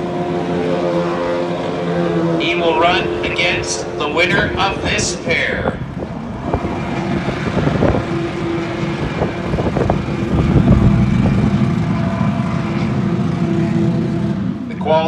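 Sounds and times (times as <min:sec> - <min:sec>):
drag racing engines running: 0:00.0 - 0:15.0.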